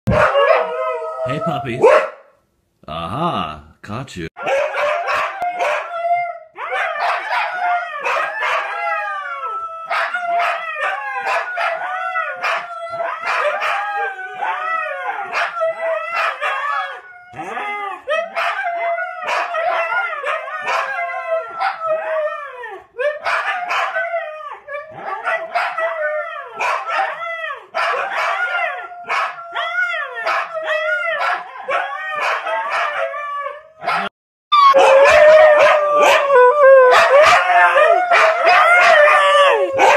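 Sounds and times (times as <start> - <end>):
huskies howling: 4.4 - 39.9.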